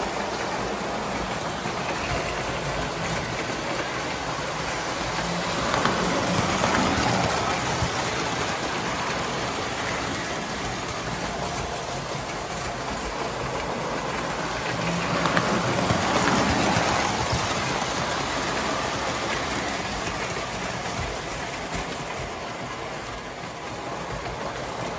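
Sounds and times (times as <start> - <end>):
toy train wheels clattering on rails: 0.0 - 24.9.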